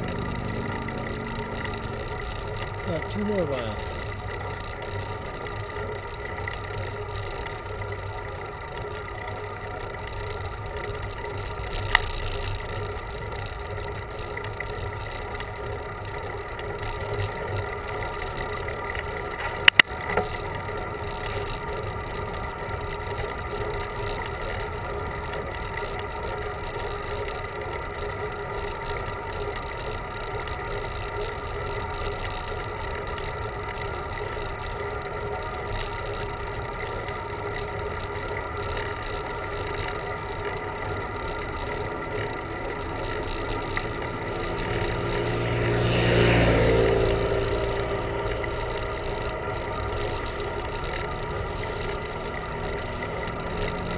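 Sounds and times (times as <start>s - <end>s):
bicycle riding hum and rush: 0.0s - 53.9s.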